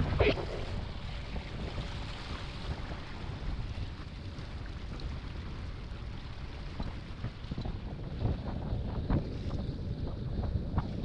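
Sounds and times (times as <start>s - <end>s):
water rushing along a hull: 0.0s - 11.0s
wind buffeting microphone: 0.0s - 11.0s.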